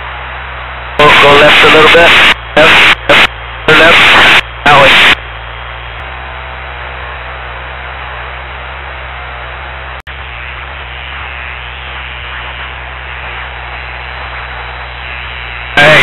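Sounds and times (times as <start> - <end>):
low steady hum: 0.0 - 16.0
small plane drone and hiss: 0.0 - 16.0.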